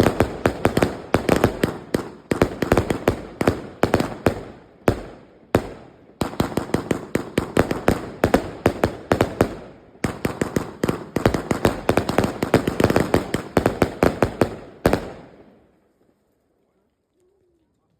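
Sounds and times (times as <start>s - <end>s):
firework bangs: 0.0s - 15.6s.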